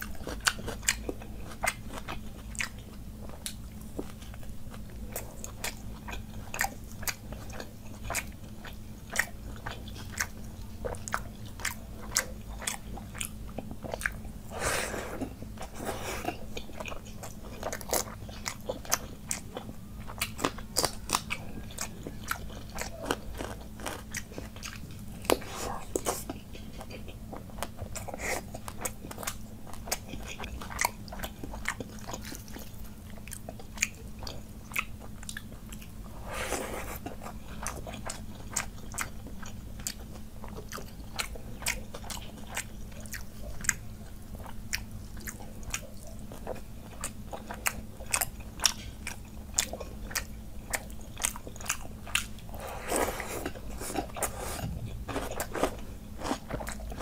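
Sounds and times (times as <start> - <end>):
chewing and crunching: 0.0 - 57.0.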